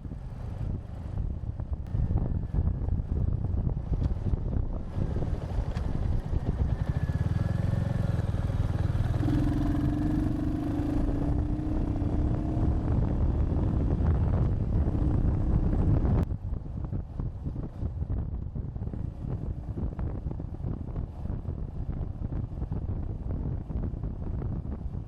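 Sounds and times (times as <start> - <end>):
motorcycle engine running: 0.0 - 25.0
wind buffeting on microphone: 0.0 - 25.0.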